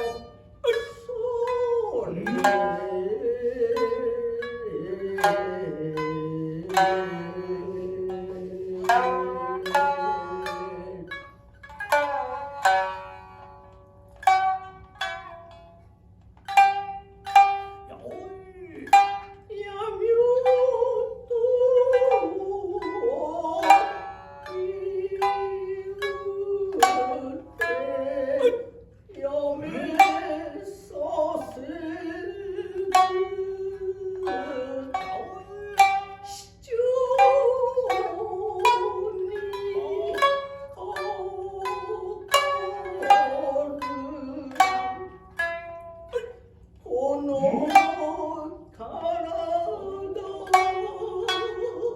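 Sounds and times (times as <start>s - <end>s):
shamisen plucks: 0.0s - 51.9s.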